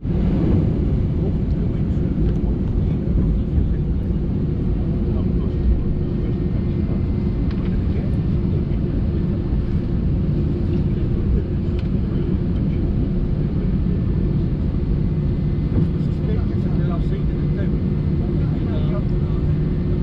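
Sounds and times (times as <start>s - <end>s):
airliner cabin hum: 0.0s - 20.0s.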